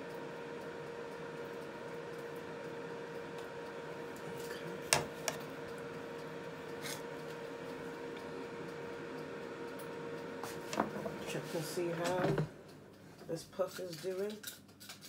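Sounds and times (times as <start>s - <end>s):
air fryer humming: 0.0s - 15.0s.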